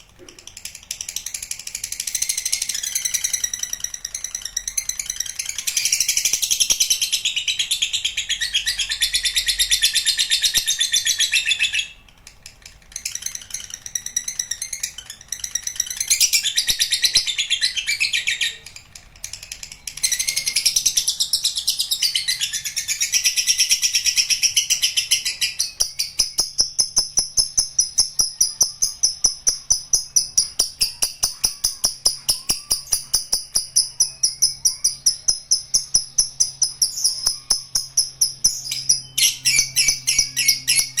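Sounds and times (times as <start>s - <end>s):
lovebird chattering trill: 0.0s - 41.0s.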